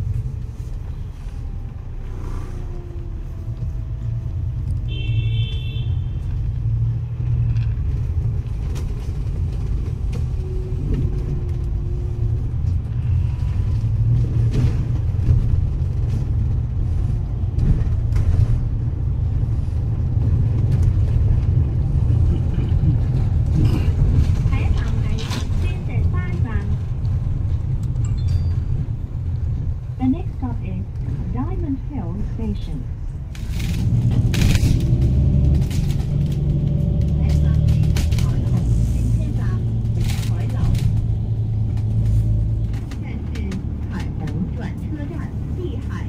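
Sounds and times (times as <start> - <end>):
bus engine rumbling: 0.0 - 46.0.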